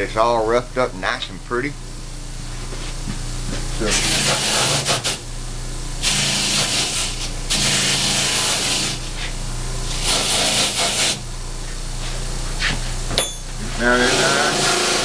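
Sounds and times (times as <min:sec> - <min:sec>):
electric motor humming: 0:02.1 - 0:15.0.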